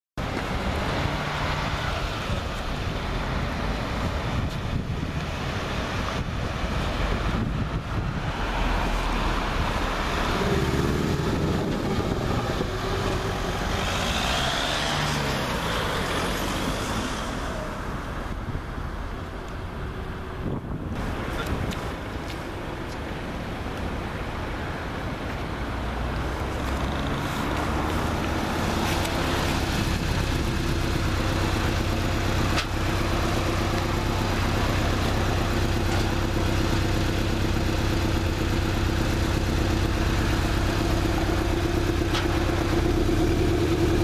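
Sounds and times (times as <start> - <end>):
motorhome passing: 0.2 - 44.0.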